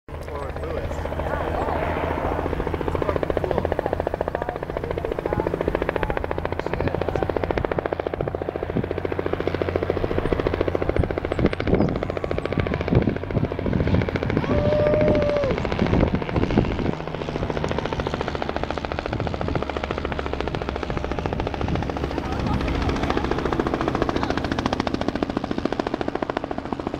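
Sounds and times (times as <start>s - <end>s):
propeller aircraft engine drone: 0.1s - 26.9s.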